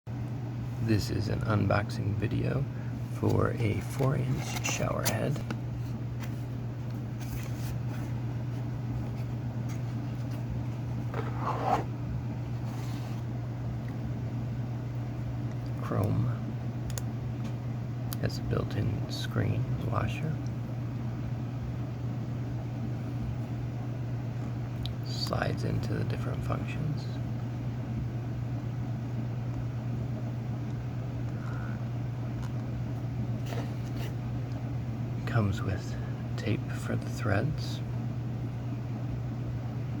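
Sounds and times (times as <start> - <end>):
low electrical hum: 0.1 - 40.0.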